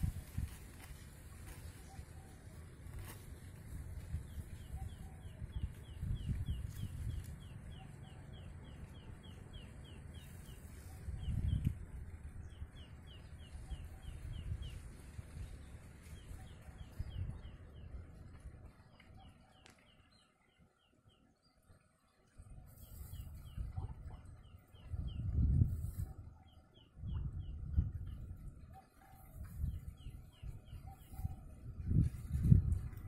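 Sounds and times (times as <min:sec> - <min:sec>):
wind rumble on microphone: 0:00.0 - 0:19.8, 0:22.3 - 0:33.0.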